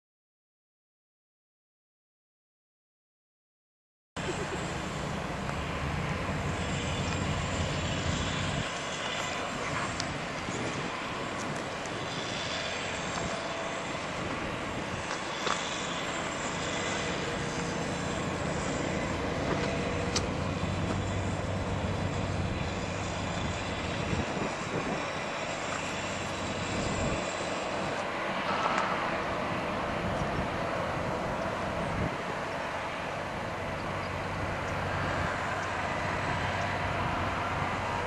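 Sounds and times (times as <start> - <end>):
jet engines taxiing: 4.2 - 38.0
low engine hum: 4.2 - 38.0.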